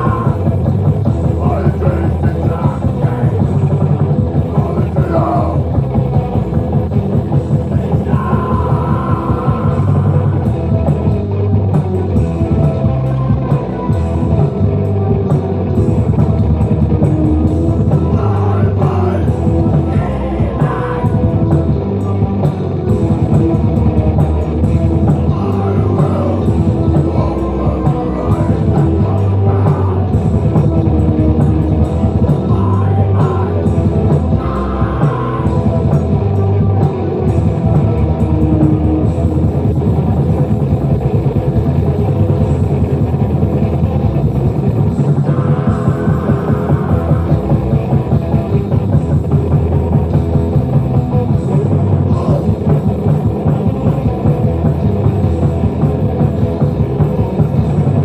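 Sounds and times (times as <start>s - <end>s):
fast drum kit beat: 0.0s - 58.0s
live rock band playing: 0.0s - 58.0s.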